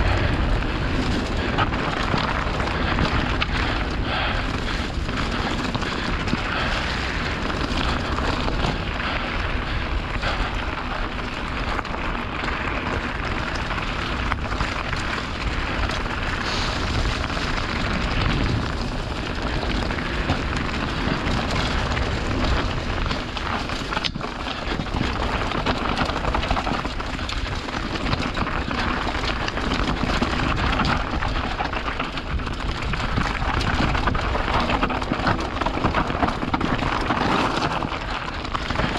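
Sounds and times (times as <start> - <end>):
bike tyres crunching over stones: 0.0 - 38.9.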